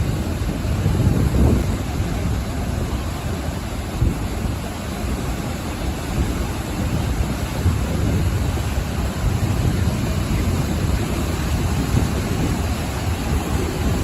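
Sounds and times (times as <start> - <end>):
ocean surf washing ashore: 0.0 - 14.0.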